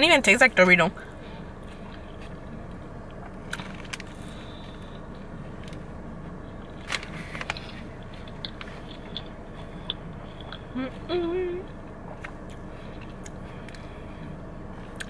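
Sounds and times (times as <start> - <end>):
low car interior hum: 0.0 - 15.0
person chewing food: 1.4 - 10.8, 11.7 - 15.0.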